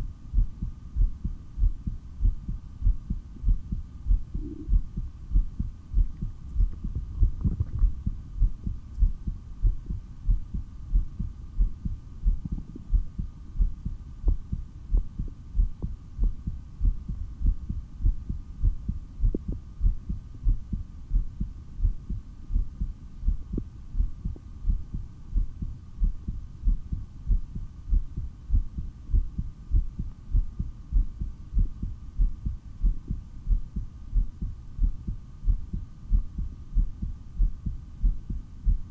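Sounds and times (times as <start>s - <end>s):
faint steady tone: 0.0s - 38.9s
heartbeat thumps: 0.0s - 38.9s.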